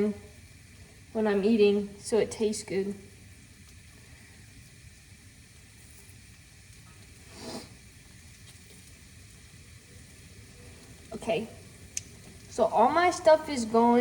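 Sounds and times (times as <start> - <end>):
onion sizzling in a pan: 0.0 - 14.0.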